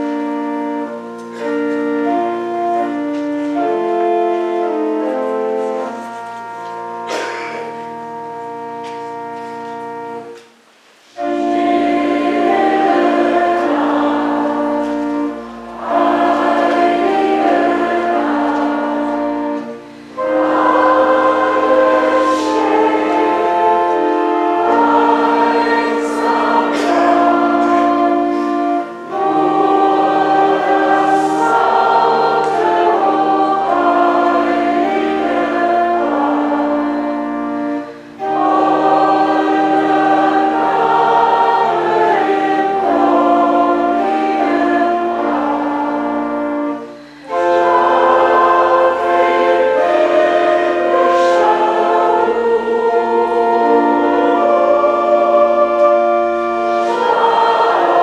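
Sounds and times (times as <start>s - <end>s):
church choir singing a hymn: 0.0s - 10.5s, 11.1s - 58.0s.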